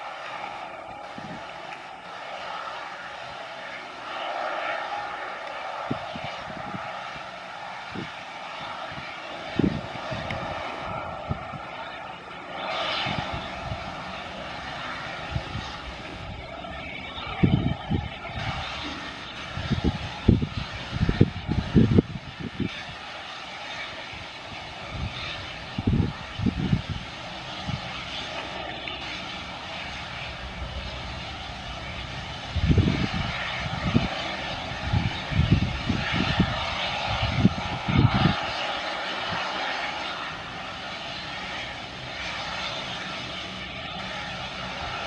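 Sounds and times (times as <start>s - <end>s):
wind buffeting microphone: 0.0s - 3.5s, 4.8s - 45.0s
helicopter engine whine: 0.0s - 45.0s.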